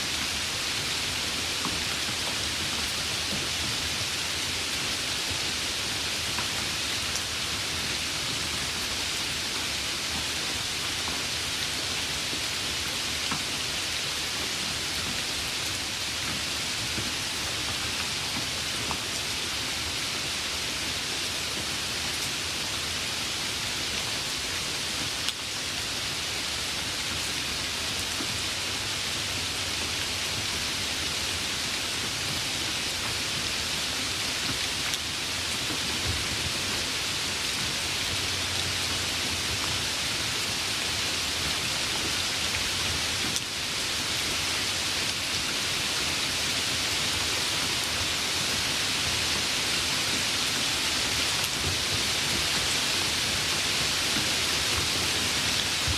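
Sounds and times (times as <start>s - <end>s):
rain hissing: 0.0s - 55.9s.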